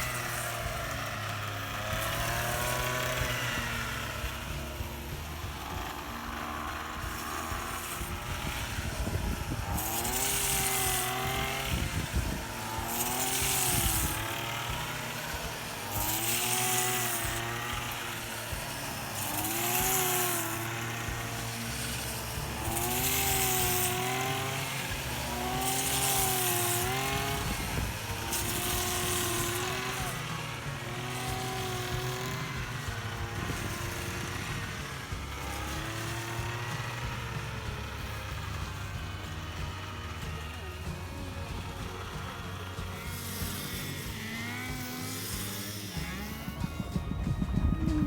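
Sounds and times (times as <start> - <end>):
blade hissing through stalks: 0.0 - 47.1
brush cutter engine under load: 0.0 - 48.0.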